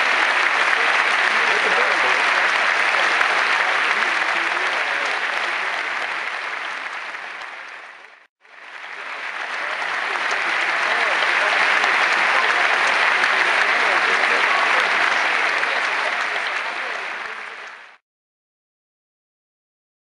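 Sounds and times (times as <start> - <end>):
crowd applauding and cheering: 0.0 - 18.0.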